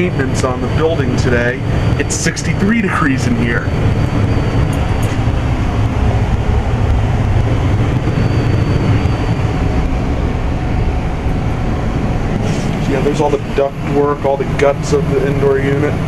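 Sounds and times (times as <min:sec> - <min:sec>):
blower low hum: 0:00.0 - 0:16.0
faint high whine: 0:00.0 - 0:16.0
rush of moving air: 0:03.0 - 0:16.0.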